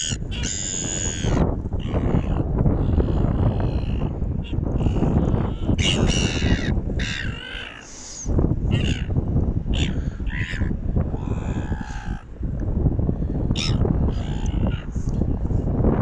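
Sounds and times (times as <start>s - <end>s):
gulls squawking: 0.0s - 9.1s, 9.7s - 12.3s, 13.6s - 15.0s
wind rumbling on microphone: 0.0s - 16.0s.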